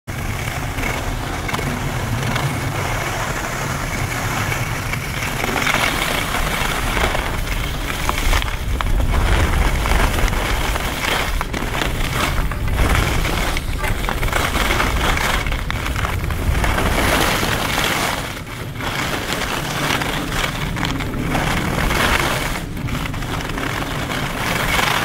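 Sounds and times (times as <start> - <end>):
skis scraping on snow: 0.1 - 25.0
wind buffeting microphone: 0.1 - 25.0.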